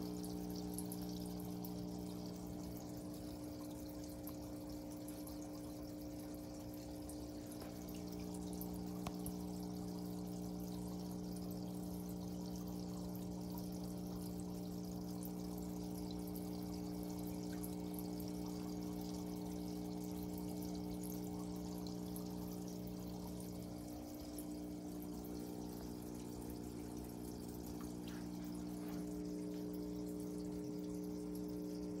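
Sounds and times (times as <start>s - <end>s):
steady low hum: 0.0s - 32.0s
water bubbling and trickling: 0.0s - 32.0s.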